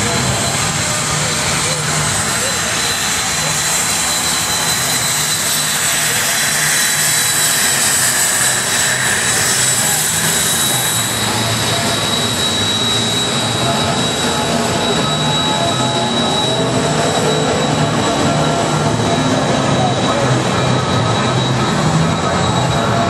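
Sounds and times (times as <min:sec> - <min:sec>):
race truck engines roaring: 0:00.0 - 0:23.0.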